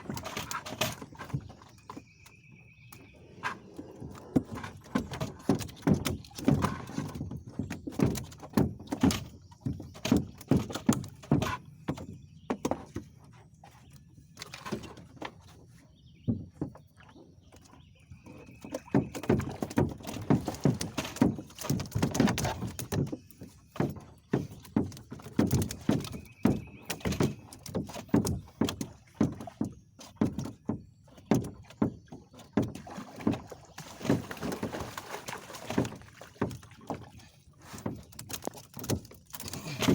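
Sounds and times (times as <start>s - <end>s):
knocks and thumps against boat: 0.0s - 39.9s.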